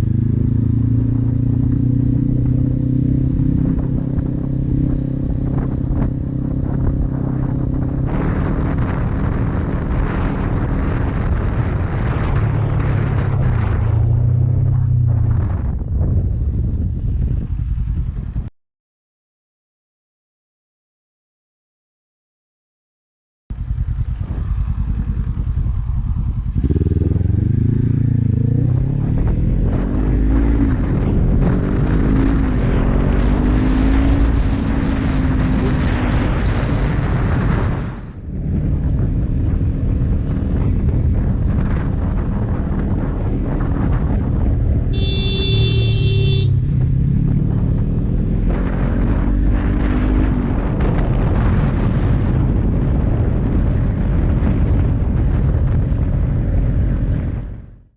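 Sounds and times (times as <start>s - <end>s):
motorcycle engine revving: 0.0s - 18.5s, 23.5s - 57.9s.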